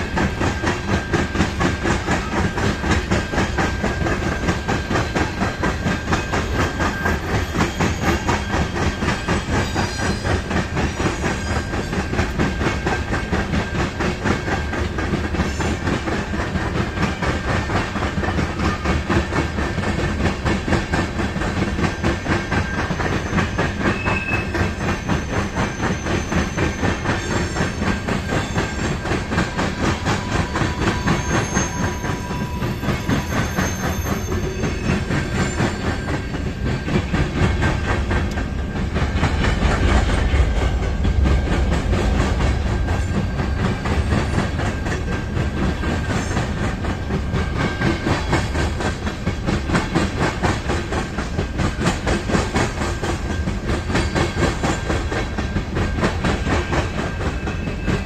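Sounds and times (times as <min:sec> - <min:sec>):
rumble of train wheels on rail: 0:00.0 - 0:58.0
wheels clicking over rail joints: 0:00.0 - 0:58.0.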